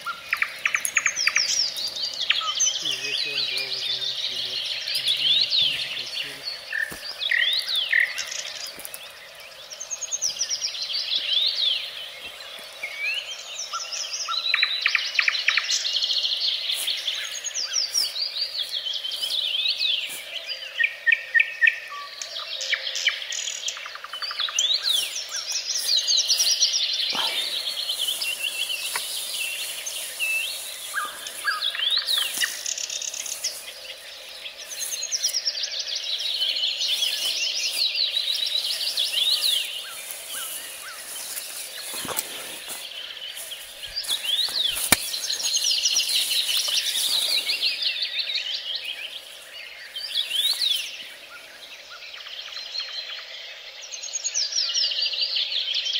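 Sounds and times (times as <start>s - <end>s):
songbird singing trills and whistles: 0.0s - 55.9s.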